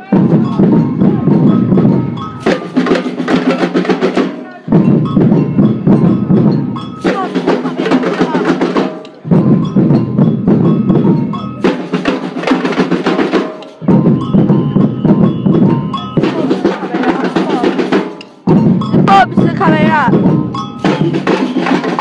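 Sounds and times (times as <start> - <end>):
drum band playing: 0.0 - 22.0.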